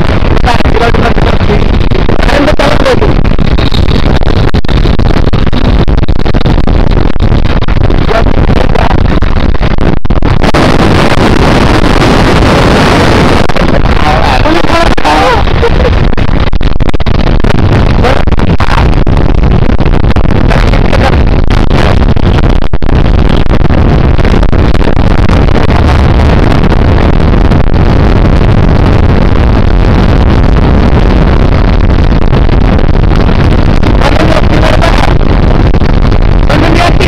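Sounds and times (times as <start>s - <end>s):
motorcycle engine and wind rush: 0.0s - 37.0s.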